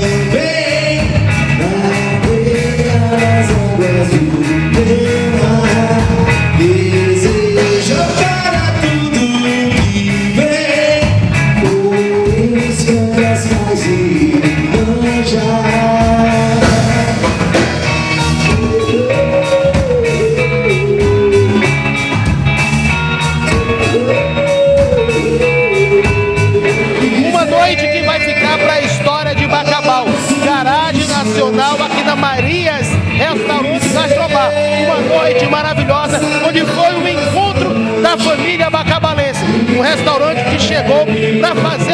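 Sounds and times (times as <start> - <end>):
person singing lead vocal: 0.0 - 22.6, 23.2 - 41.9
band playing rock song: 0.0 - 41.9.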